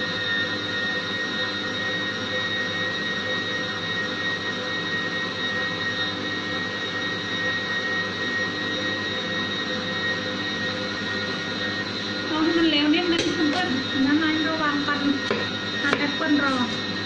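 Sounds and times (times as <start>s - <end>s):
food processor motor whining: 0.0s - 17.0s.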